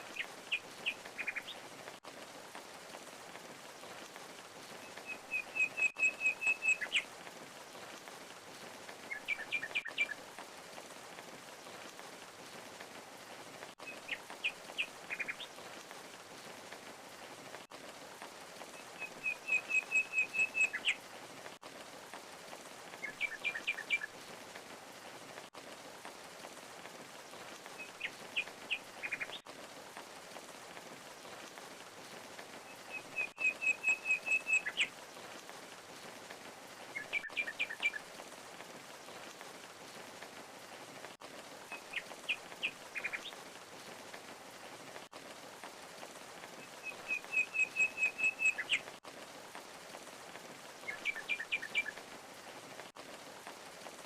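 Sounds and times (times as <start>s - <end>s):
rushing falling water: 0.0s - 54.0s.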